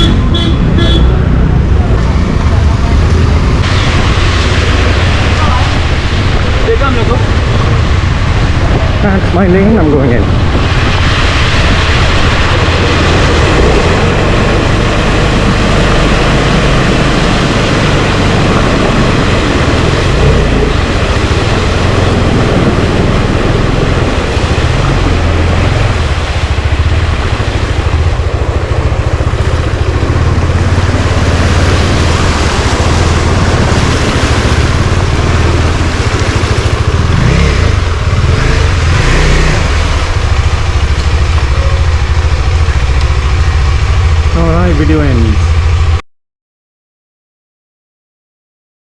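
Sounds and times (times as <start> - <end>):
road noise: 0.0 - 46.0
vehicle engine running: 0.0 - 46.0.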